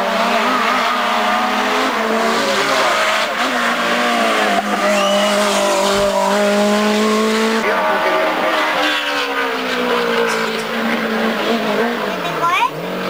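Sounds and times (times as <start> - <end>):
rally car engine revving hard: 0.0 - 13.0.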